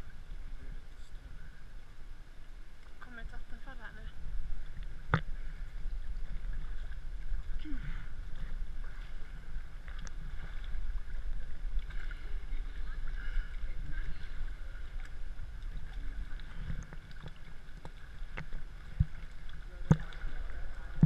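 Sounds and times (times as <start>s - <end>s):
steady low rumble: 0.0s - 21.0s
people swimming splashing: 3.0s - 21.0s.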